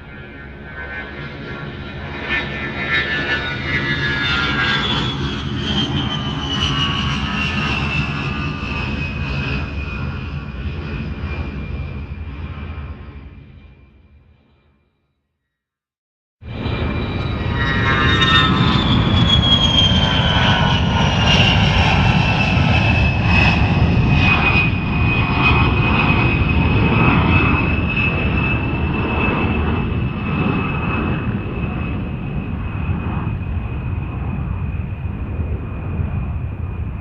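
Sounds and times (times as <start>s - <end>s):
jet engine whine: 0.0s - 14.8s, 16.4s - 37.0s.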